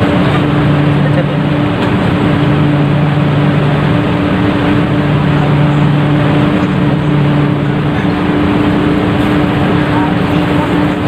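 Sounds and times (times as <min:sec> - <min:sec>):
constant rushing noise: 0:00.0 - 0:11.0
ship engine droning: 0:00.0 - 0:11.0.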